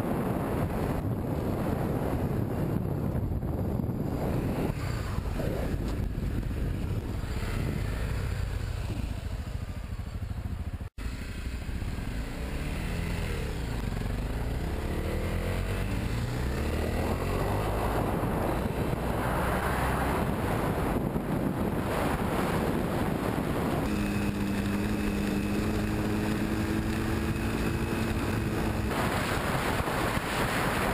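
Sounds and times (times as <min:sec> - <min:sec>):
wind noise: 0:00.0 - 0:09.4, 0:12.6 - 0:30.9
motorcycle engine revving: 0:00.1 - 0:30.9.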